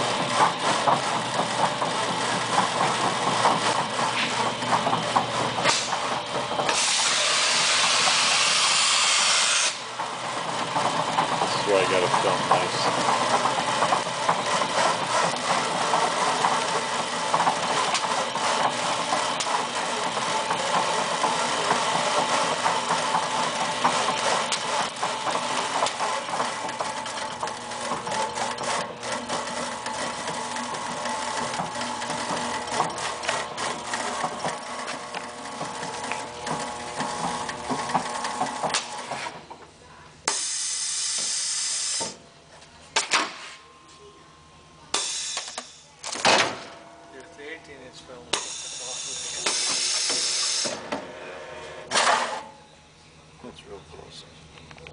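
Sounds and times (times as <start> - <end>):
stretch-wrapping machine running: 0.0 - 44.0, 44.7 - 52.6.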